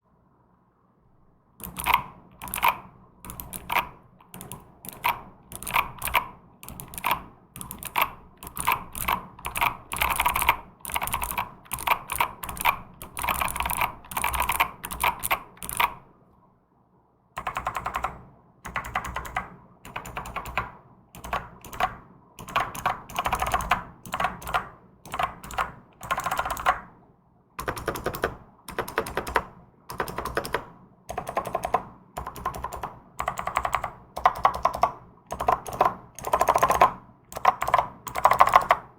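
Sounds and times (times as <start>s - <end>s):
mechanical keyboard typing: 1.6s - 16.0s, 17.4s - 26.9s, 27.6s - 38.9s.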